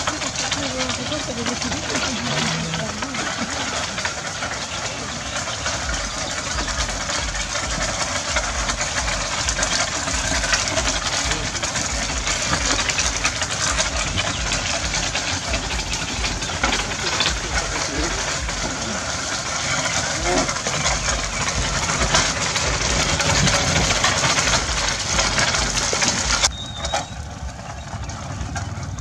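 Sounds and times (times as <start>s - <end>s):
wooden cart rattling on dirt road: 0.0s - 29.0s.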